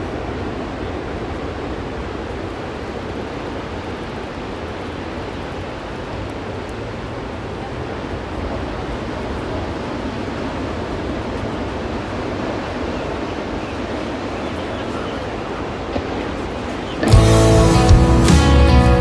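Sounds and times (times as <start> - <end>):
wind rumbling on microphone: 0.0 - 17.9
ocean surf washing onto beach: 0.0 - 18.6.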